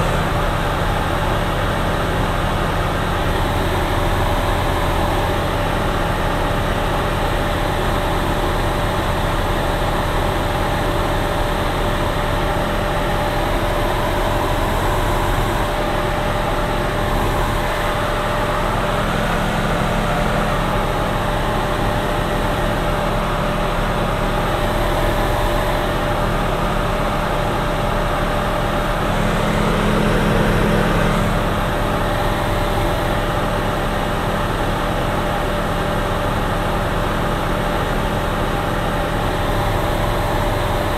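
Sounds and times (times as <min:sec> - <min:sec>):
constant whine: 0:00.0 - 0:40.9
light aircraft engine drone: 0:00.0 - 0:40.9.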